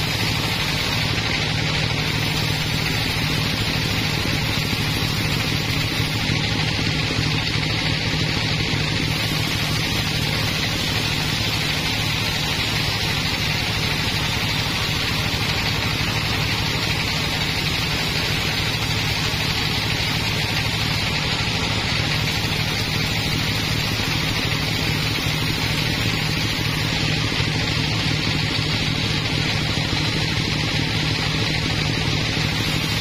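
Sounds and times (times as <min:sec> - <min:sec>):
bandsaw hissing through wood: 0:00.0 - 0:27.5, 0:32.4 - 0:33.0
low machine hum: 0:00.0 - 0:33.0.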